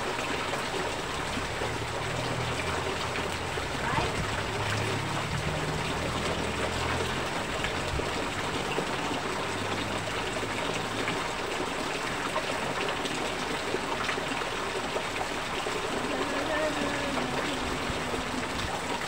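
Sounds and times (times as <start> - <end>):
heavy rain on pavement: 0.0 - 19.0
water pouring and splashing: 0.0 - 19.0.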